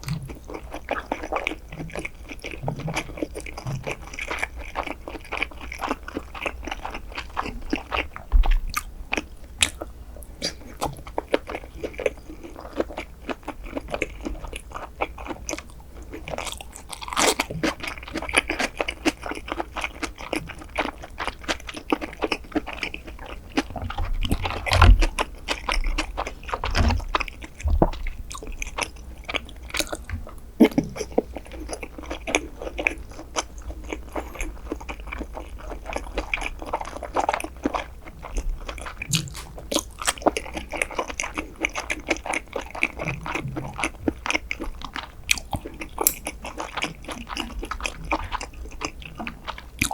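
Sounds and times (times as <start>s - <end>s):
biting food: 0.0s - 49.9s
wet chewing and mouth clicks: 0.0s - 49.9s.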